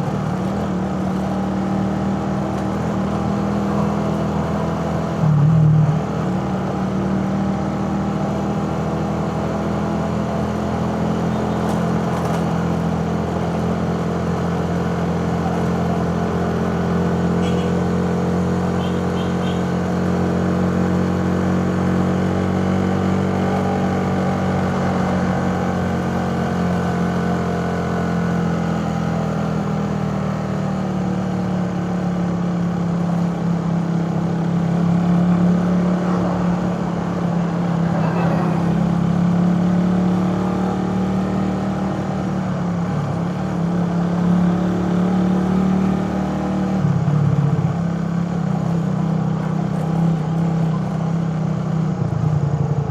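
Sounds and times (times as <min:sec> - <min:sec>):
motorcycle engine running: 0:00.0 - 0:40.2, 0:41.6 - 0:52.9.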